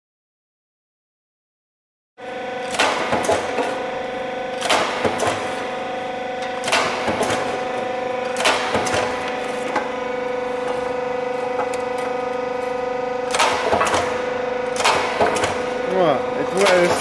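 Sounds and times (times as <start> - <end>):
splitter motor humming: 2.2 - 17.0.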